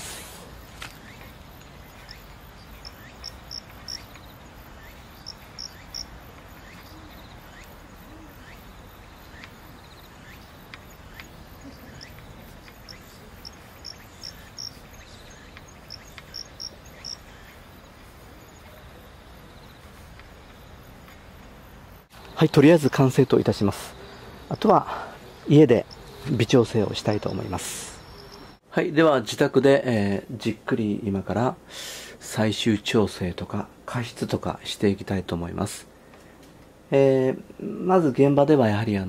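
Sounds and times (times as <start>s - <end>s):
steady faint hiss: 0.0s - 39.0s.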